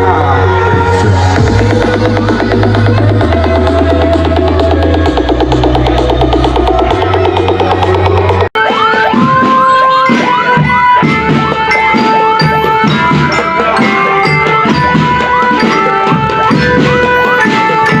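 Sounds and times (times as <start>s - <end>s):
loud music with hand-drum beat: 0.0s - 18.0s.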